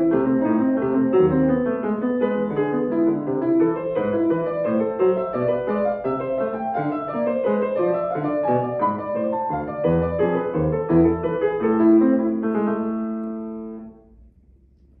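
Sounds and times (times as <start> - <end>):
grand piano playing: 0.0 - 14.3.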